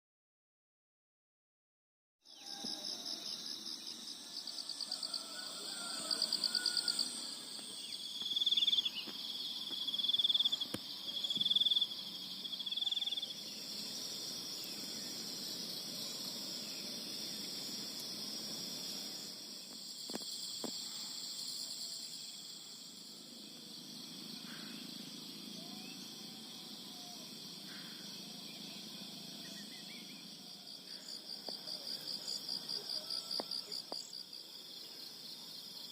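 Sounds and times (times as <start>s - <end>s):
insects trilling: 2.3s - 35.9s
loud insect call: 2.3s - 35.9s.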